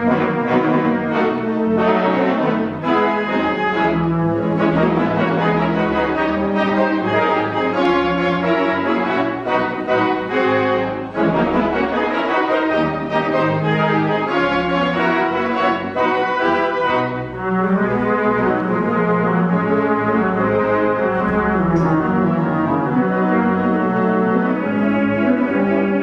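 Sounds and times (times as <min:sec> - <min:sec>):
orchestral music with brass and strings: 0:00.0 - 0:26.0.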